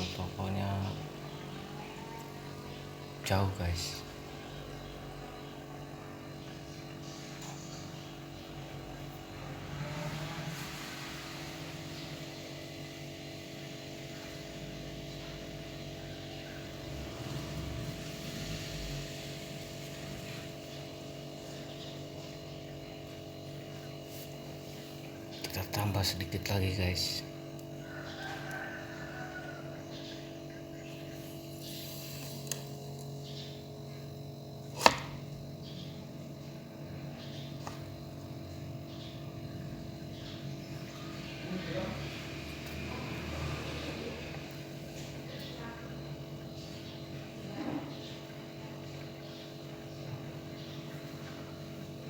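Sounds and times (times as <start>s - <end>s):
refrigerator compressor humming: 0.0s - 52.0s.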